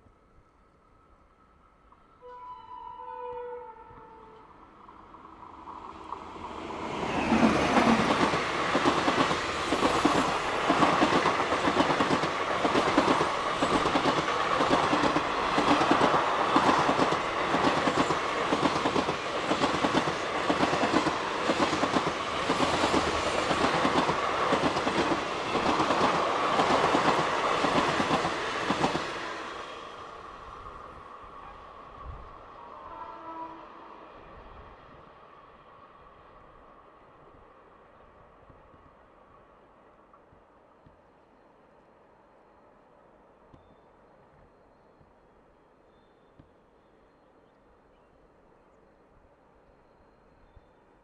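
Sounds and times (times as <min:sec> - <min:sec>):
passenger train passing: 0:00.0 - 0:46.1.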